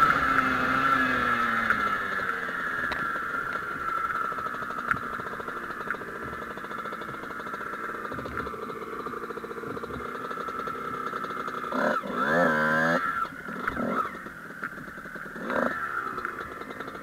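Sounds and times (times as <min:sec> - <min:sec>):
engine revving: 0:00.0 - 0:17.0
two-stroke motorbike engine idling: 0:00.0 - 0:17.0.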